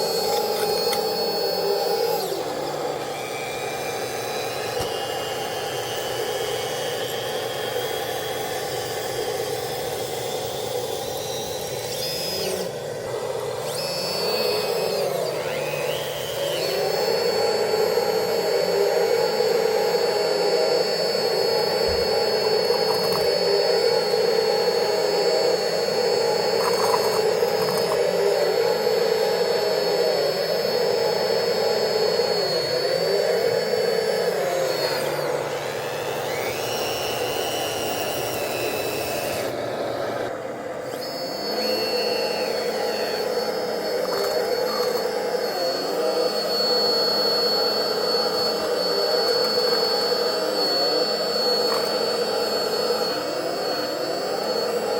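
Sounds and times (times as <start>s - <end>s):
hydraulic pump motors whining: 0.0s - 54.9s.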